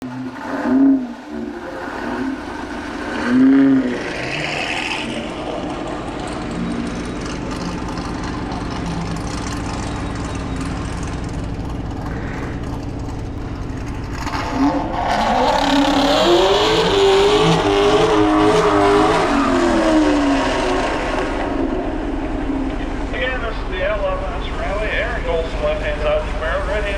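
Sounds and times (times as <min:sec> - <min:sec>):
car engine accelerating: 0:00.0 - 0:26.9.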